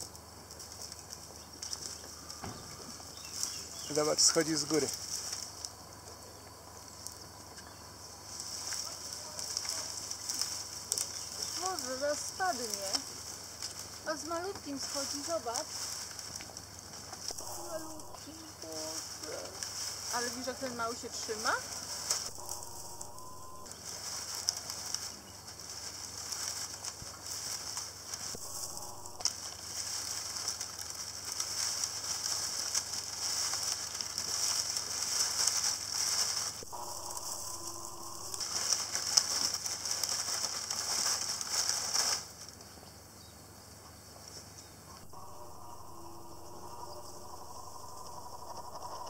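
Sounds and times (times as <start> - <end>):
dry palm fronds crackling: 0.0 - 49.0.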